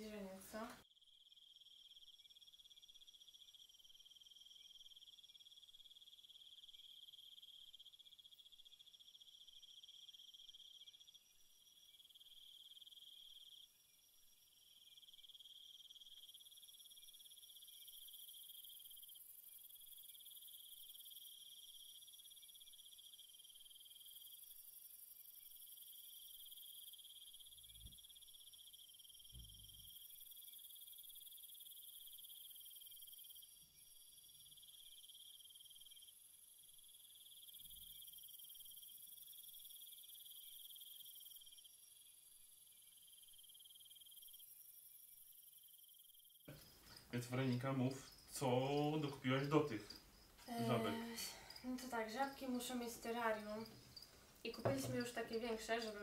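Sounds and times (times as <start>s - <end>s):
cricket trill: 0.0s - 56.0s.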